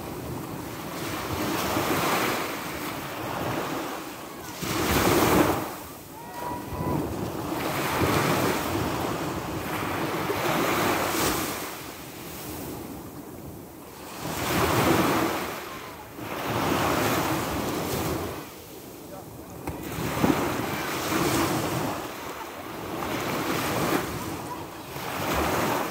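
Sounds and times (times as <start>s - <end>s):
sea waves breaking on shore: 0.0s - 25.9s.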